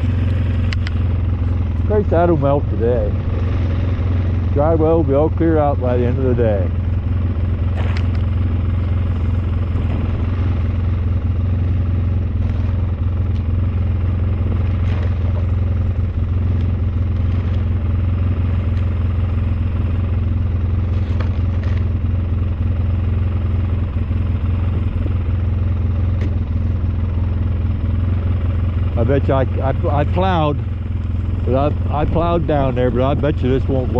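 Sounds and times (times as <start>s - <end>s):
snowplow engine droning: 0.0s - 33.9s.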